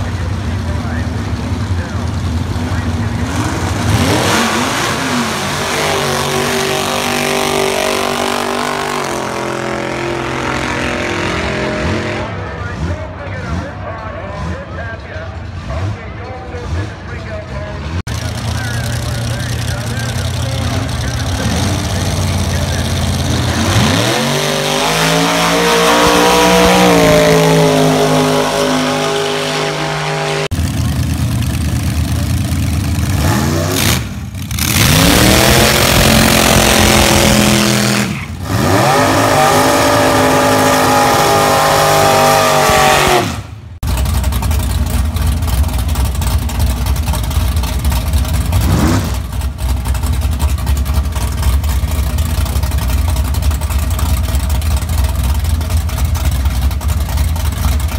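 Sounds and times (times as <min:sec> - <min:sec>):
car engine rumbling at low revs: 0:00.0 - 0:57.9
drag car engines accelerating: 0:00.0 - 0:57.9.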